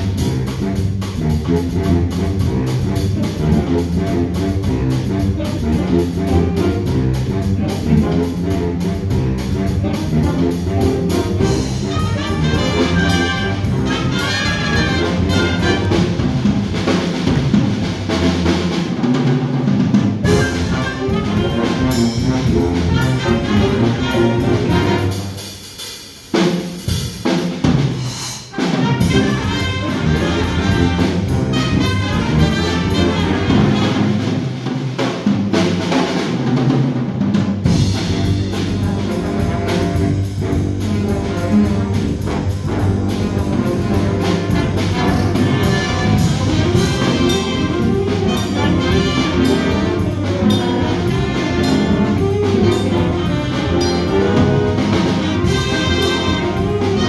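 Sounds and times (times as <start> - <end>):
jazz band playing: 0.0 - 57.0.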